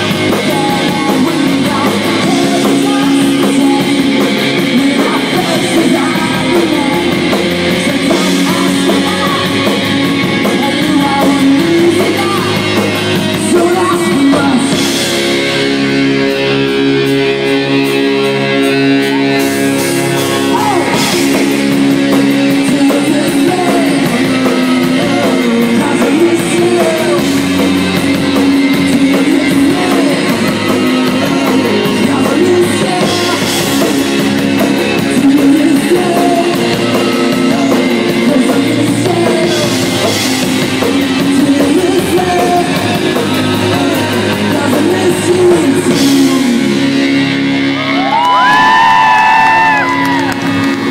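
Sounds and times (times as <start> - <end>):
drums: 0.0 - 50.9
electric guitar: 0.0 - 50.9
person singing lead vocals: 0.0 - 50.9.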